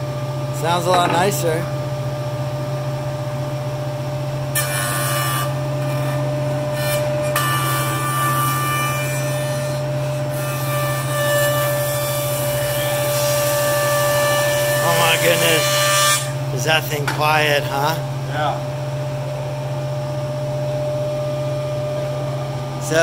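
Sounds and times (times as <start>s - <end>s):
jointer motor hum and whine: 0.0s - 23.0s.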